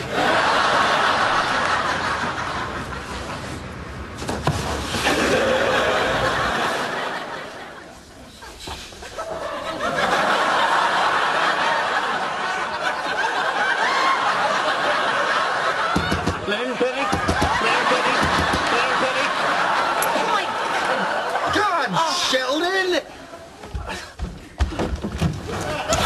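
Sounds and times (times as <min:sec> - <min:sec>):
audience laughing: 0:00.0 - 0:03.8, 0:05.0 - 0:22.4, 0:25.5 - 0:26.0.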